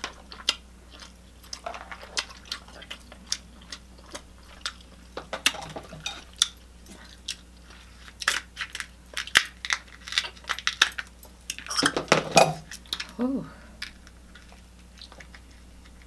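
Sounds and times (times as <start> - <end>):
chewing: 0.0 - 13.2, 13.8 - 16.0
crab shells cracking: 0.0 - 13.2, 13.8 - 16.0.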